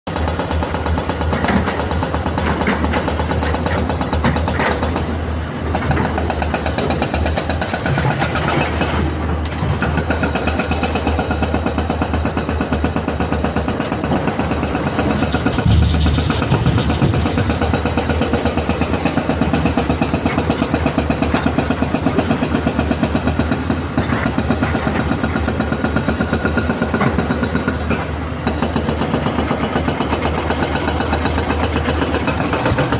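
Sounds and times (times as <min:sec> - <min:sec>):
excavator diesel engine running: 0:00.1 - 0:32.9.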